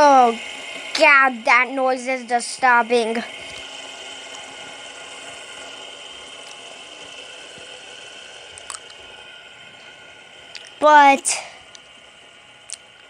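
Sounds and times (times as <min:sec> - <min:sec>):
fidget spinner whirring: 0:00.0 - 0:13.0.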